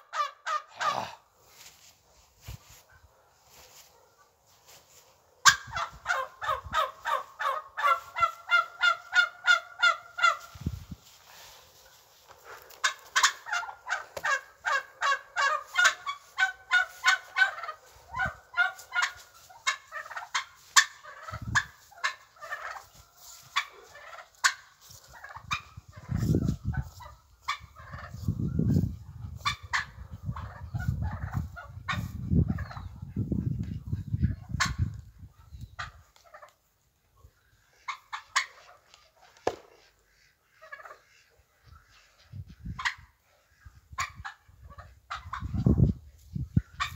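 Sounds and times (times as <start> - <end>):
fowl short repeated calls: 0.0 - 1.9, 4.7 - 32.8, 37.6 - 45.7.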